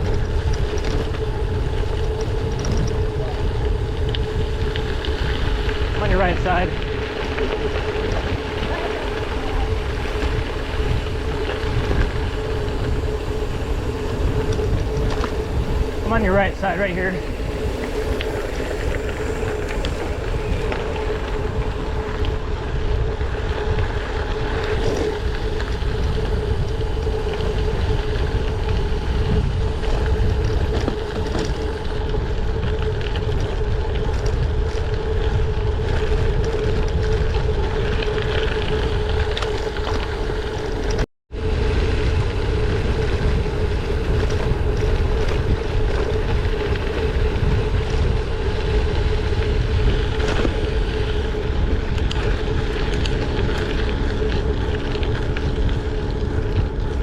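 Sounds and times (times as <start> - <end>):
bike tyres rumbling on dirt: 0.0 - 57.0
steady hum: 0.0 - 57.0
wind buffeting microphone: 0.0 - 57.0.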